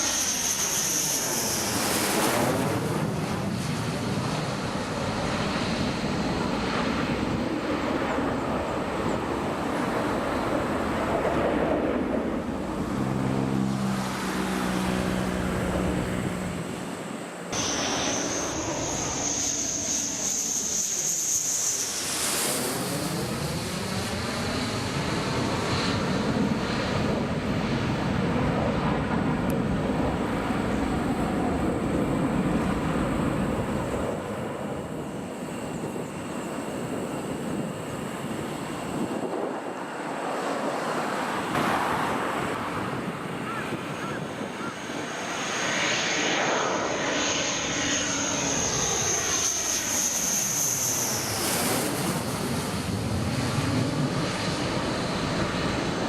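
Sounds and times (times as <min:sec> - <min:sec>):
fighter jet passing overhead: 0:00.0 - 0:56.0.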